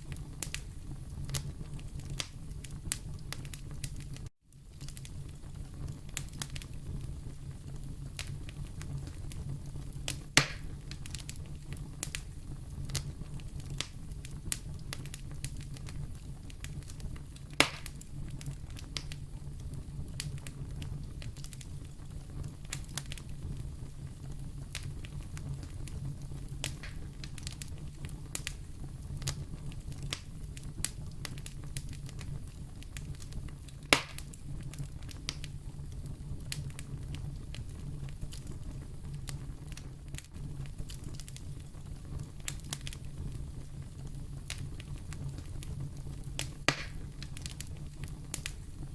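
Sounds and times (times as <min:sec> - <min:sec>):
fire crackling in a fireplace: 0:00.0 - 0:48.9
sharp fire pops: 0:00.0 - 0:48.9.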